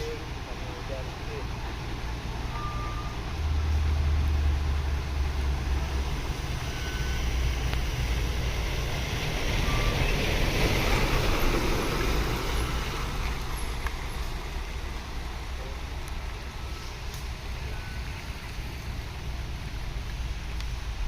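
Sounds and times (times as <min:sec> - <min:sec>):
rain hiss: 0:00.0 - 0:21.0
truck diesel engine climbing: 0:00.0 - 0:21.0.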